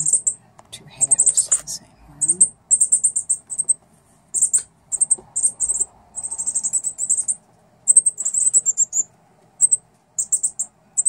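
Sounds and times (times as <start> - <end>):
young birds chipping: 0.0 - 11.0.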